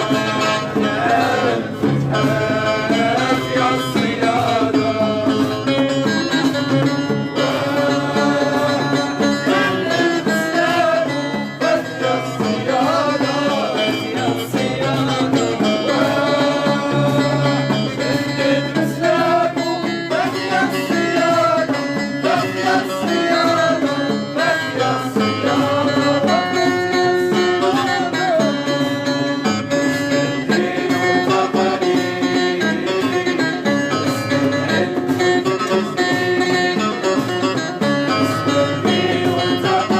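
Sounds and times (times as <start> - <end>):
plucked string instruments: 0.0 - 39.9.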